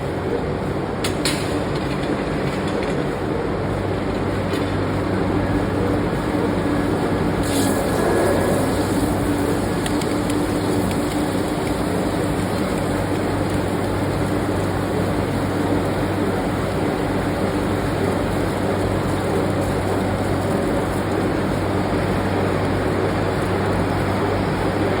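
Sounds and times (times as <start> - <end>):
factory machinery drone: 0.0 - 25.0.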